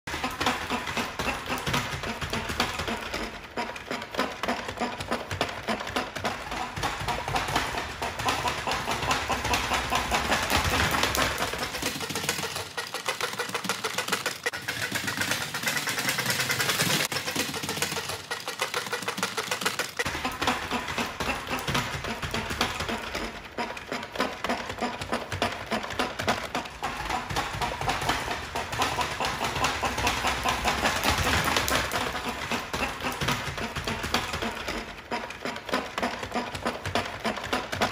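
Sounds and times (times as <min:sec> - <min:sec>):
plastic feet slapping floor: 0:00.0 - 0:37.9.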